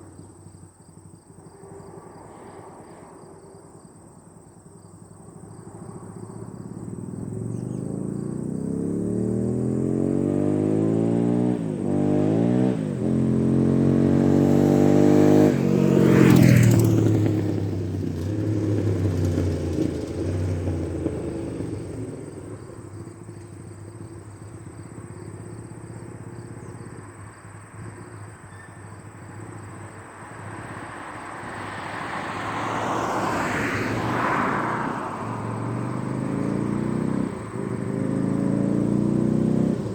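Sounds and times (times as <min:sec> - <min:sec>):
motorcycle engine accelerating: 0:06.0 - 0:27.3, 0:29.0 - 0:39.9.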